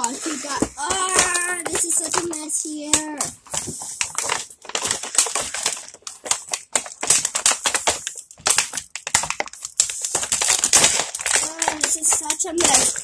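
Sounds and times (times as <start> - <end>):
plastic packaging crackling: 0.0 - 13.0.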